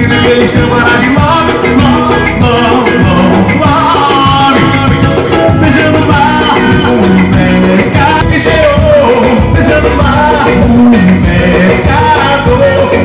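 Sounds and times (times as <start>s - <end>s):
live band playing dance music: 0.0s - 13.0s
man singing: 0.0s - 13.0s.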